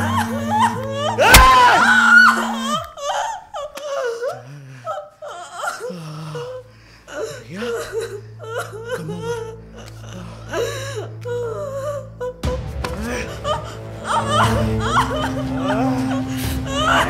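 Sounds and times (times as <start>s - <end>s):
low music drone: 0.0s - 3.1s, 5.9s - 17.0s.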